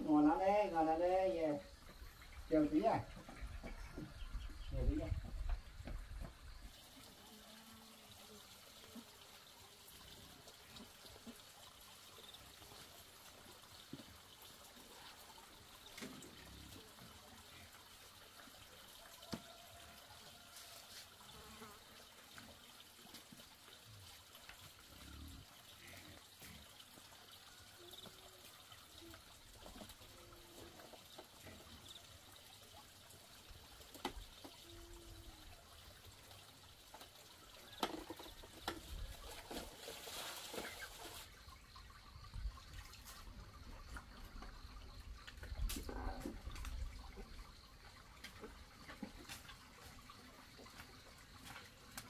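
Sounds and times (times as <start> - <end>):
faint outdoor background hiss: 0.0 - 52.0.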